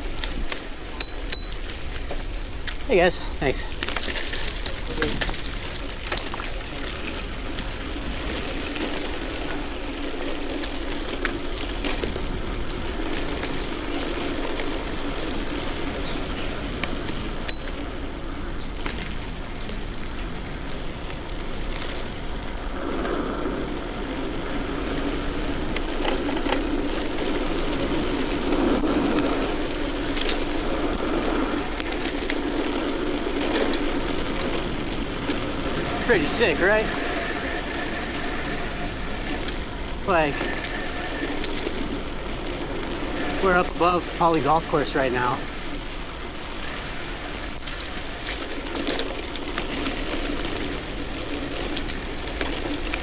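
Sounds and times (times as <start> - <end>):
bicycle tyres on road: 0.0 - 53.0.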